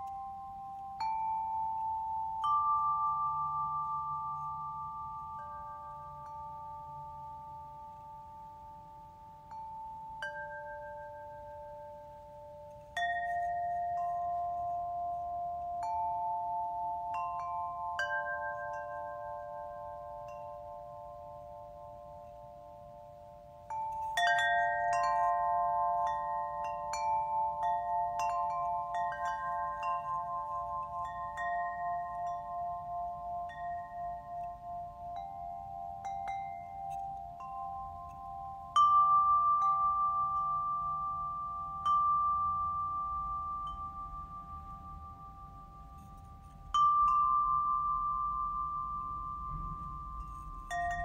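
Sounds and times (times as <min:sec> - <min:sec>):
tuned chimes ringing: 0:00.0 - 0:51.0.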